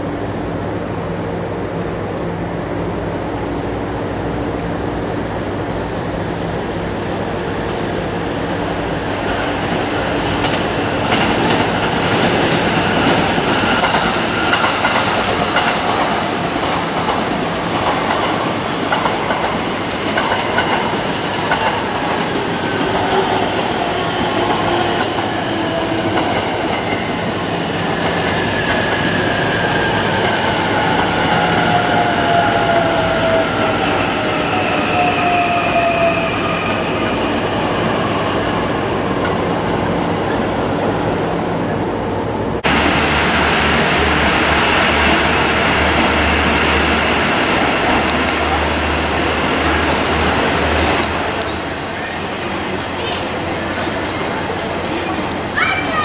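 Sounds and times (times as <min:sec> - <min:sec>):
electric train running past: 0:00.0 - 0:56.0
train whining tones: 0:06.6 - 0:56.0
rail clicks: 0:08.7 - 0:41.0, 0:42.6 - 0:56.0.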